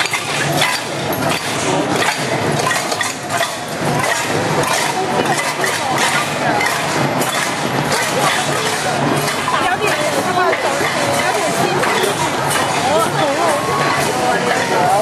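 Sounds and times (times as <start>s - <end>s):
pots and pans clanking: 0.0s - 15.0s.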